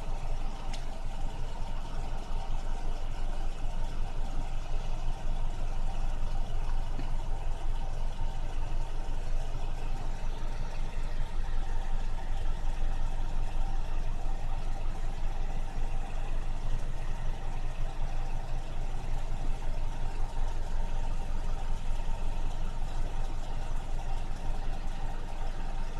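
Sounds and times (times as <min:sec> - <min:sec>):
vehicle engine idling: 0:00.0 - 0:25.9.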